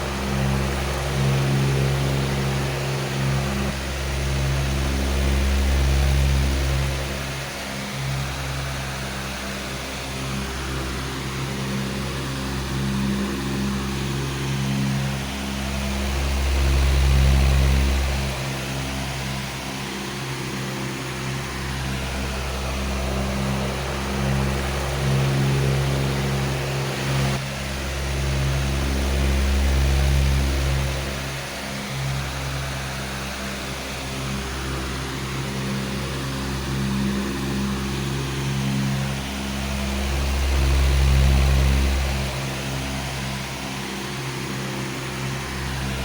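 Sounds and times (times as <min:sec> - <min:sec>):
electric fan motor hum: 0:00.0 - 0:46.0
fan air rushing: 0:00.0 - 0:46.0.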